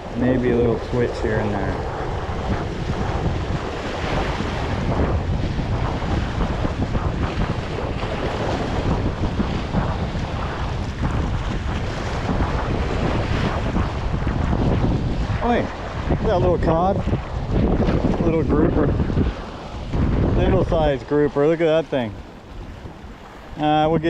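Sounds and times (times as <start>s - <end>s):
ocean surf against rocks: 0.0s - 24.0s
wind buffeting microphone: 0.0s - 24.0s.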